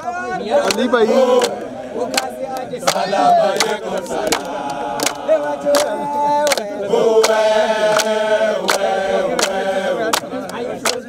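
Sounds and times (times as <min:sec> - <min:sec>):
men singing a chant: 0:00.0 - 0:11.0
hand clapping: 0:00.6 - 0:11.0.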